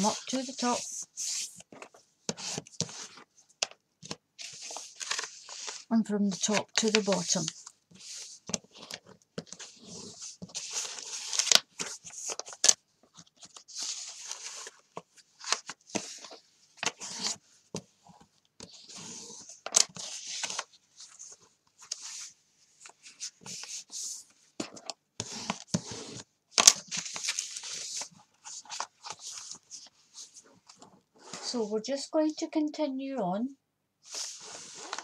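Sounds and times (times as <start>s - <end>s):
book pages folded and creased: 0.0s - 31.7s, 34.0s - 35.0s.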